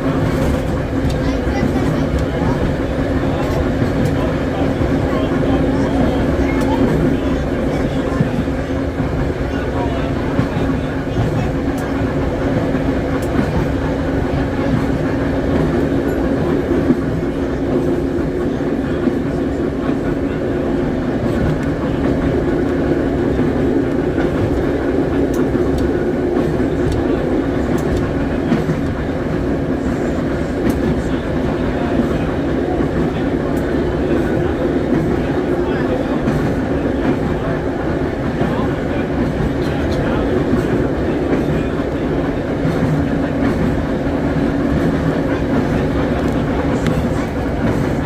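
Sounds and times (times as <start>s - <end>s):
constant hum: 0.0s - 48.0s
steel wheels rumbling on rail: 0.0s - 48.0s.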